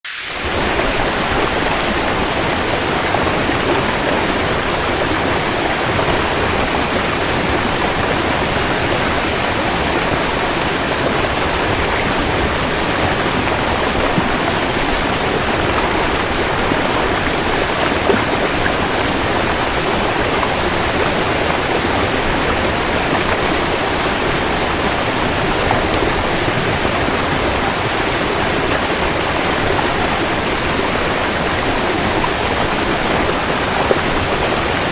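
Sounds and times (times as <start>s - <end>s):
heavy rain hiss: 0.0s - 34.9s.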